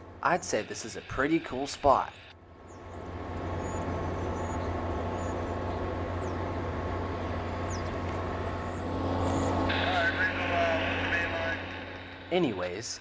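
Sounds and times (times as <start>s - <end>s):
train rumbling on viaduct: 0.0s - 13.0s.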